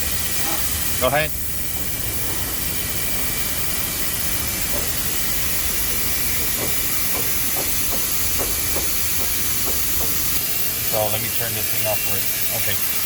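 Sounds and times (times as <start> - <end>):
faint high whine: 0.0 - 13.0
loud steady hiss: 0.0 - 13.0.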